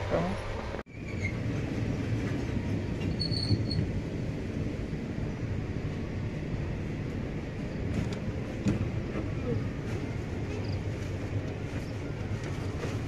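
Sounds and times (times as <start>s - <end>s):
train coach rumbling on rails: 0.0s - 13.0s.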